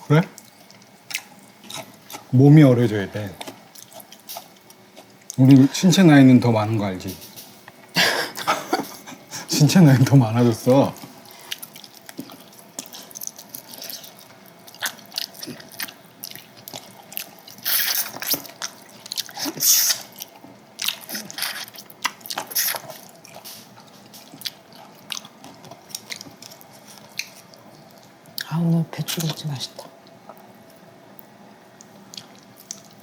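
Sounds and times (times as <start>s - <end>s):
wet chewing and crunching: 0.1s - 5.7s, 9.6s - 30.9s, 31.7s - 33.0s.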